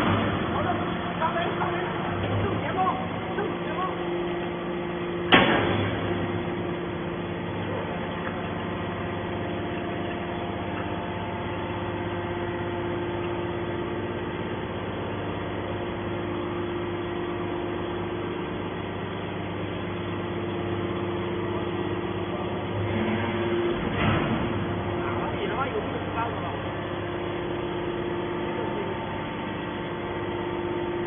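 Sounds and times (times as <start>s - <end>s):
hydraulic baler humming: 0.0s - 31.0s.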